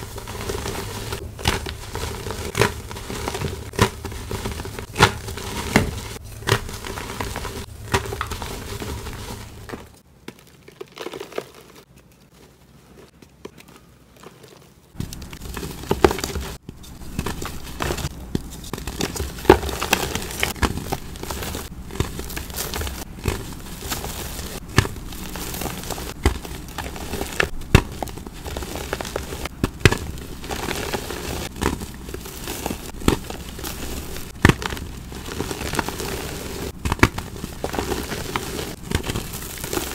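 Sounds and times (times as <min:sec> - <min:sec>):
chalk crunching: 0:00.0 - 0:10.0, 0:13.6 - 0:39.9.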